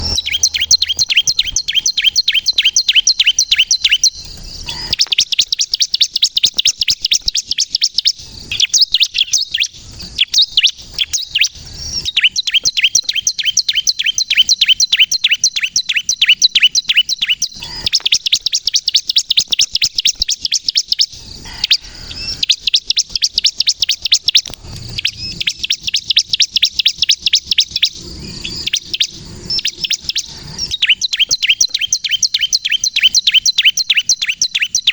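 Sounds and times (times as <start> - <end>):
bird chirping rapidly: 0.0 - 34.9.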